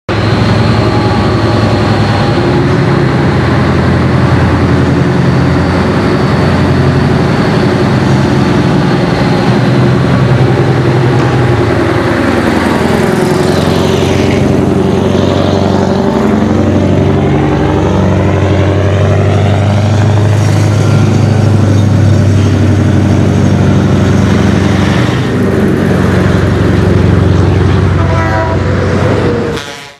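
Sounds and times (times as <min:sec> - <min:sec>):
diesel truck driving by: 0:00.1 - 0:29.9.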